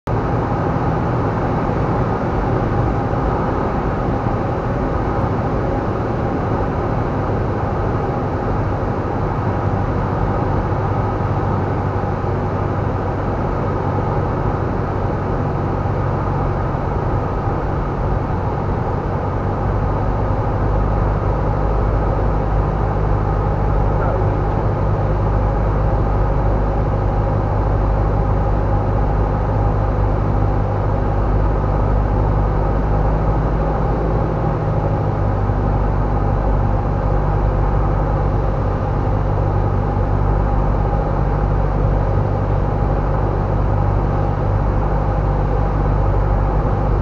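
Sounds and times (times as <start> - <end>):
light airplane engine droning: 0.1 - 47.0.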